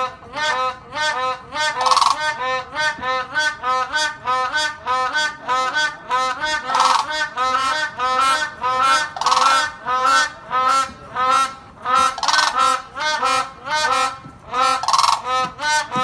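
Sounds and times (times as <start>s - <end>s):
cranes honking: 0.0s - 16.0s
harsh crane call: 0.0s - 16.0s.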